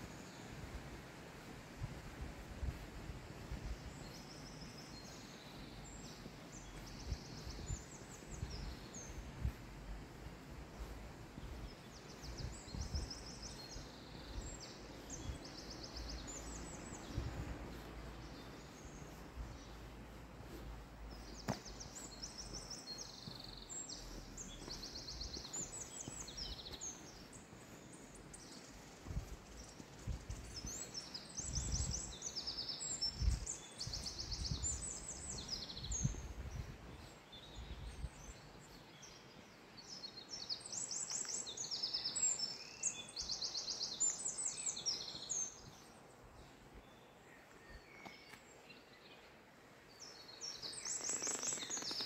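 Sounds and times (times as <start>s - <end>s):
songbirds trilling: 3.6s - 52.0s.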